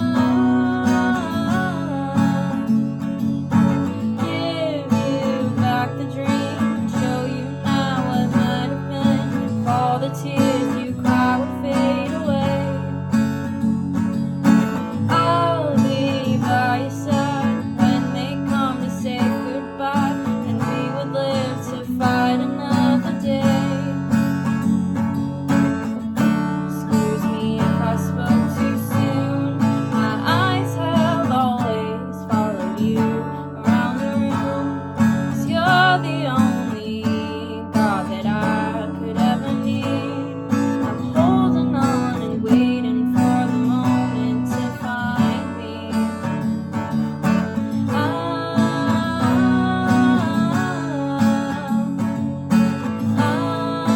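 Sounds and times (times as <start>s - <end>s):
person singing: 0.0s - 2.9s, 3.6s - 13.1s, 14.9s - 24.1s, 26.7s - 46.3s, 47.7s - 53.9s
strummed acoustic guitar: 0.0s - 53.9s.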